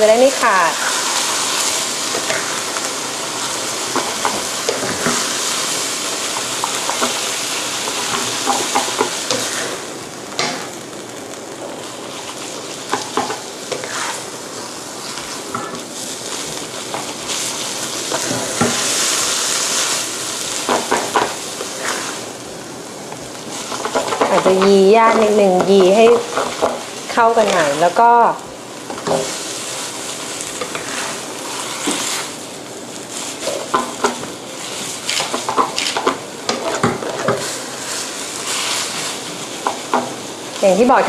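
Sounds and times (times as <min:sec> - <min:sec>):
food sizzling in a wok: 0:00.0 - 0:41.0.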